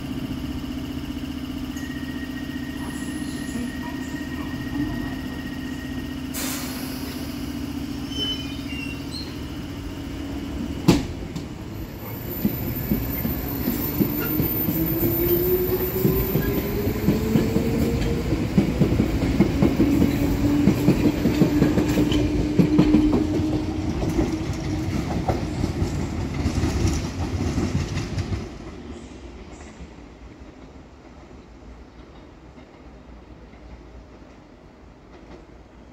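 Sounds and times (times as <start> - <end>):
train humming: 0.0 - 35.9.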